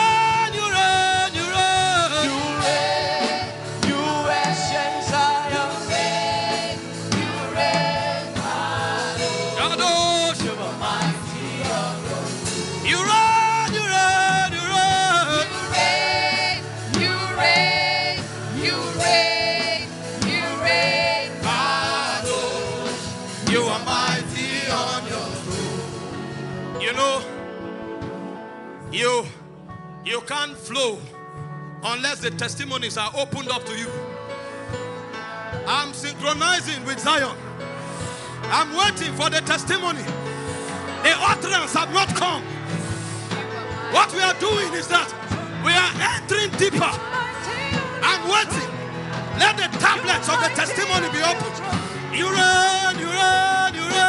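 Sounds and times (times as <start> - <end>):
gospel worship singing: 0.0 - 27.9, 34.4 - 54.0
instrumental accompaniment: 0.0 - 54.0.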